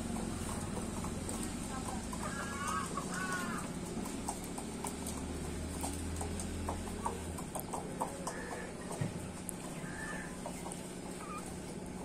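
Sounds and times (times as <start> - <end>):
chickens clucking: 0.0 - 12.0
steady low hum: 0.0 - 12.0.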